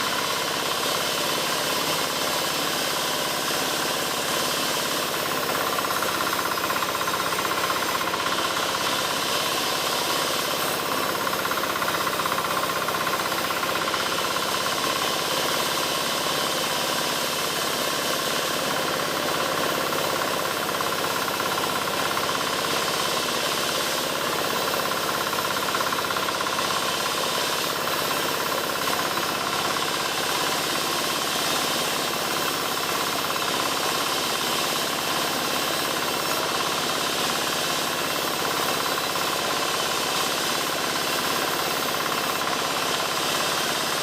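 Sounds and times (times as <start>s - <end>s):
power saw cutting wood: 0.0s - 44.0s.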